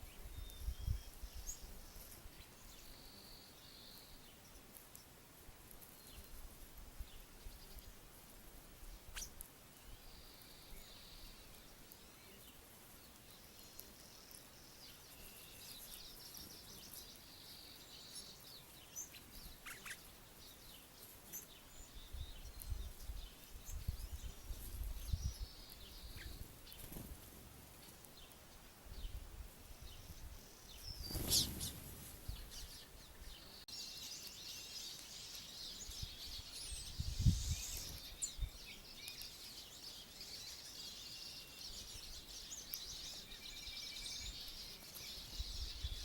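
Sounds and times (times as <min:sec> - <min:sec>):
small songbirds chirping: 0:00.0 - 0:46.0.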